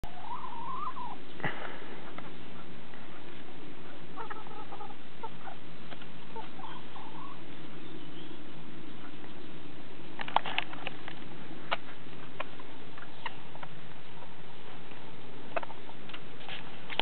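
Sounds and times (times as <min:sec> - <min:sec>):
chickens calling: 0:00.0 - 0:17.0
chickens clucking: 0:00.0 - 0:17.0
steady background hiss: 0:00.0 - 0:17.0.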